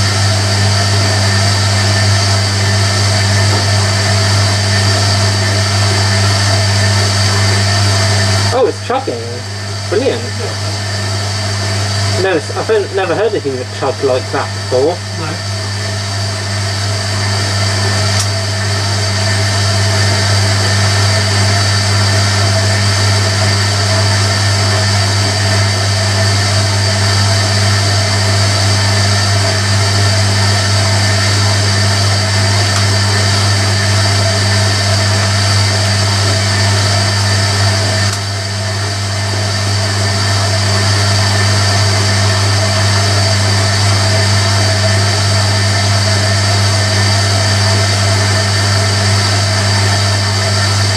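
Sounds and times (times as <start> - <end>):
washing machine chugging: 0.0 - 50.9
washing machine humming: 0.0 - 50.9.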